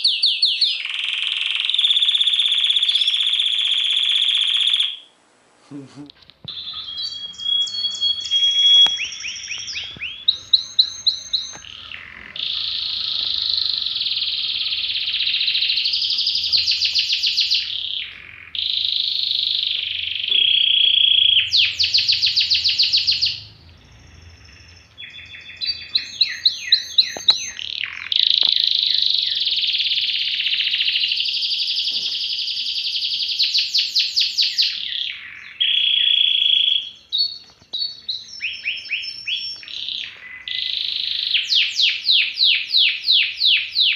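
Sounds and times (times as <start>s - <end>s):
songbird warbling and trilling: 0.0s - 5.0s, 6.1s - 43.9s.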